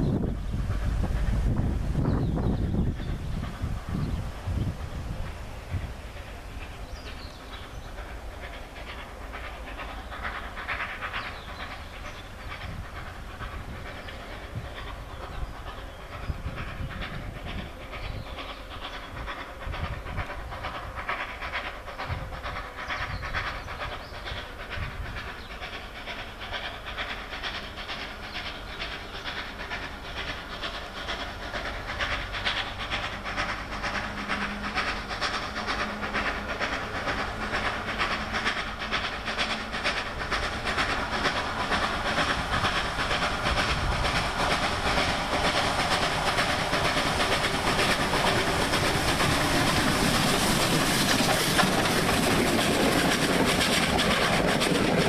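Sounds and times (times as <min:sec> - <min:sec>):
rumbling train wheels: 0:00.0 - 0:55.0
steam locomotive exhaust chuffs: 0:00.0 - 0:55.0.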